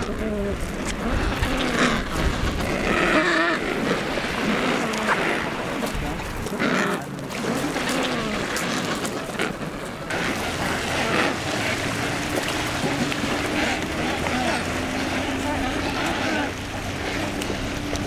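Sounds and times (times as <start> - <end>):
penguins calling: 0.0 - 9.5, 10.1 - 17.5
splashing water and surf: 0.0 - 18.0.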